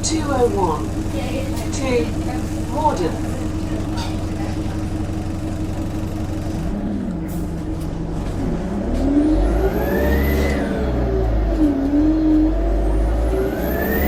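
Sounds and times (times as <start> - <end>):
diesel bus engine idling and revving: 0.0 - 14.0.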